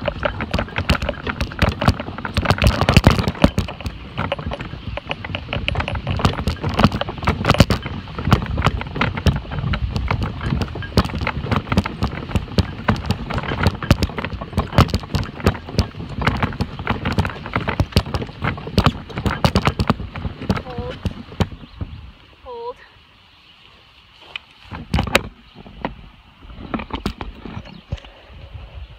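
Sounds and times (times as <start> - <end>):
wagon rattling over grass: 0.0 - 22.2, 24.2 - 28.8
low rumble of wheels: 0.0 - 23.0, 23.6 - 28.9.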